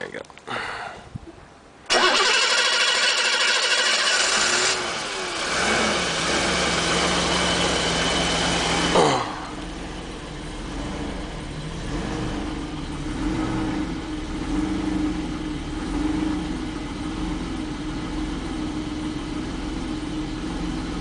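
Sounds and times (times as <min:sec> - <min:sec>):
car engine idling: 0:01.9 - 0:21.0.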